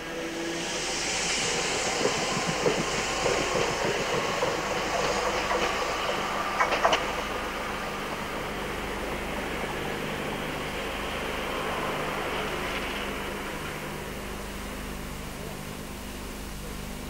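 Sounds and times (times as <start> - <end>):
train running on track: 0.0 - 17.0.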